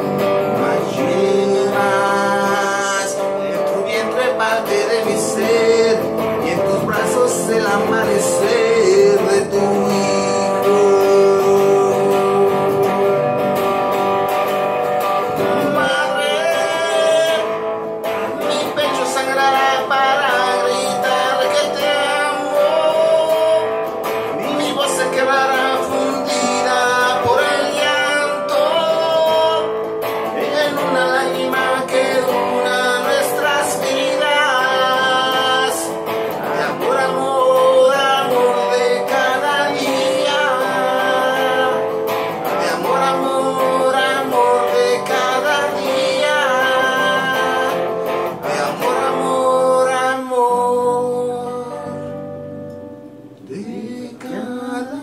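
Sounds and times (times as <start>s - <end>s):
acoustic guitar strummed and plucked: 0.0s - 55.0s
man singing: 0.0s - 55.0s.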